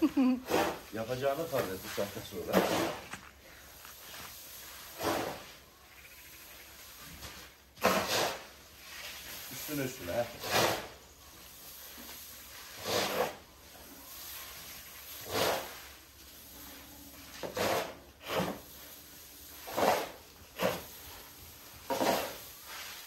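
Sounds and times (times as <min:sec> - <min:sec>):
shovel scooping grain: 0:00.4 - 0:05.9, 0:06.7 - 0:23.0
falling grain swishing: 0:00.5 - 0:05.8, 0:06.6 - 0:23.0.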